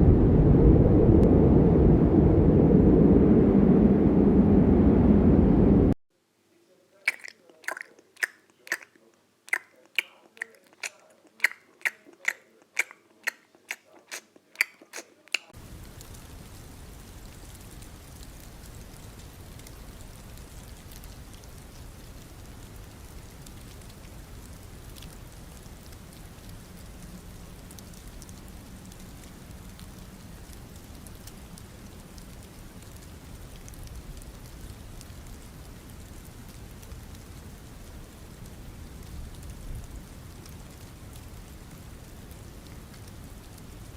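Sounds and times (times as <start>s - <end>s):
steady hiss: 6.2s - 43.9s.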